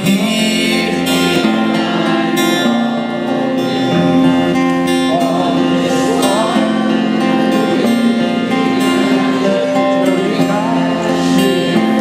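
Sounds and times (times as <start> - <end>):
acoustic guitar strumming: 0.0 - 12.0
crowd singing: 0.0 - 12.0.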